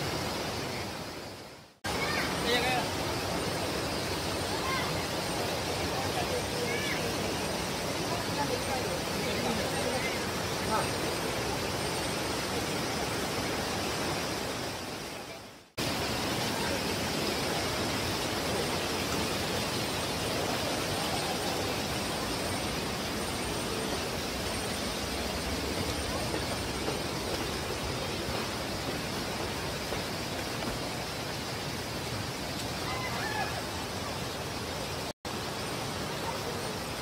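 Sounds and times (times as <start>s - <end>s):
river rushing over stones: 0.0s - 37.0s.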